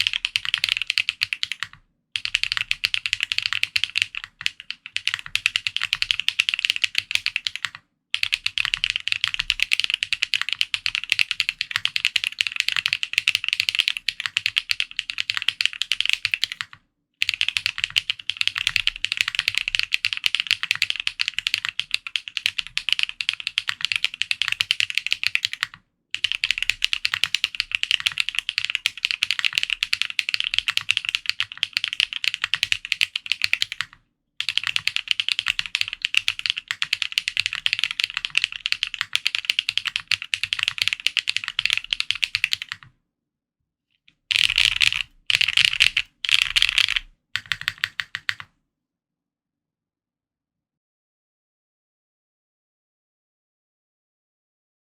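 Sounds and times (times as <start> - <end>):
mechanical keyboard typing: 0.0 - 42.9, 44.1 - 48.5.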